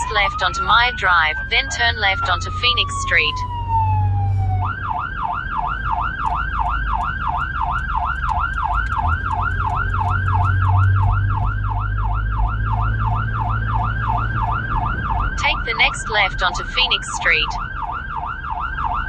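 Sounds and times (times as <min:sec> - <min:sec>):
emergency vehicle siren: 0:00.0 - 0:19.0
vehicle engine drone: 0:00.0 - 0:19.0.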